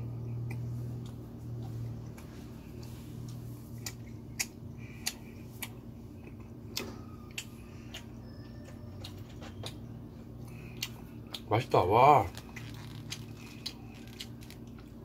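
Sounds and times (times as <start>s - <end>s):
mouth chewing sticky rice cake: 0.0s - 15.0s.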